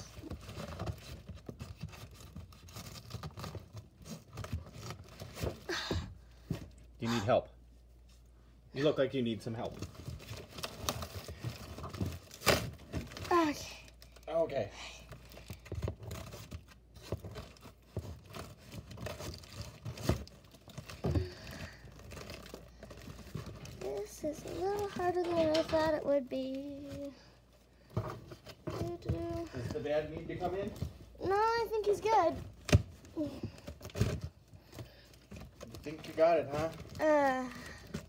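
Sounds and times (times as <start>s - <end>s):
tape crinkling: 0.0s - 6.8s, 9.5s - 38.0s.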